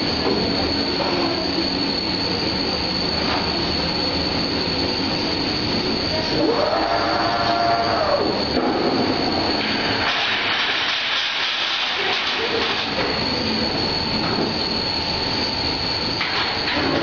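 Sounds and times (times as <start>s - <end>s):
dough sheeter machine running: 0.0s - 17.0s
high motor whine: 0.0s - 17.0s.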